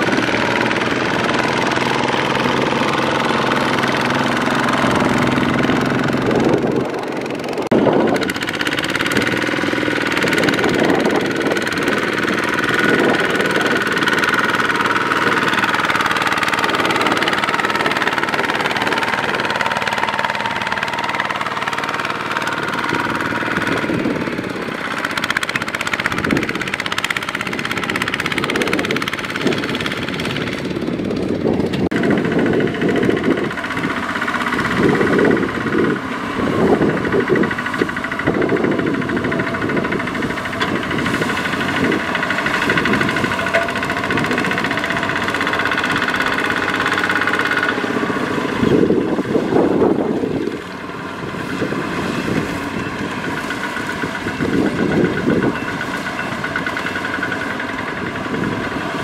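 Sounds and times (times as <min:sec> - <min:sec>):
diesel power tiller engine under load: 0:00.0 - 0:59.0.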